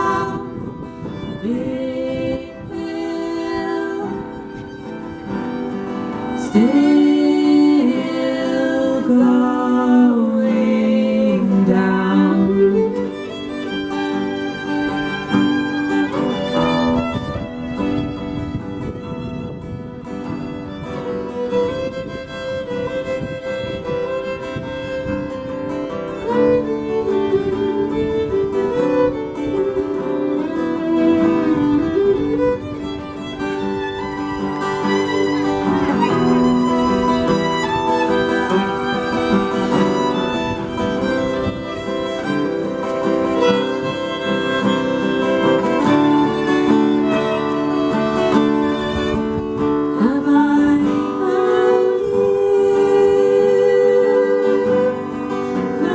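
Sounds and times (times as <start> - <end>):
guitar accompaniment: 0.0 - 55.9
violin melody: 0.0 - 55.9.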